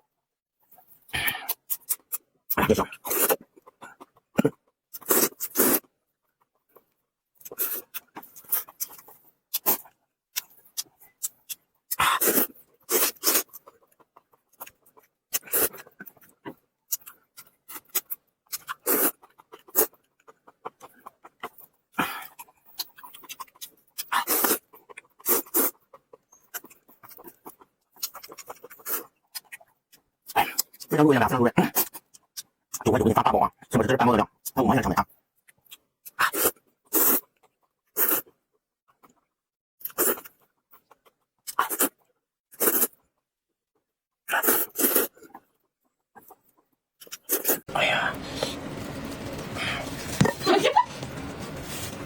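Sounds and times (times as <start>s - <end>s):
person chewing: 0.8s - 30.9s, 31.6s - 33.0s, 35.4s - 43.2s, 44.3s - 48.7s.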